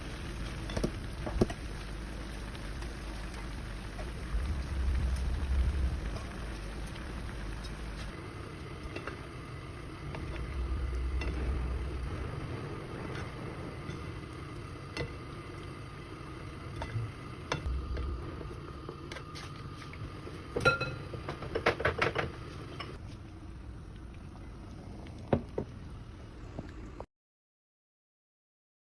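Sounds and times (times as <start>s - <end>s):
food simmering and sizzling: 0.0s - 27.1s.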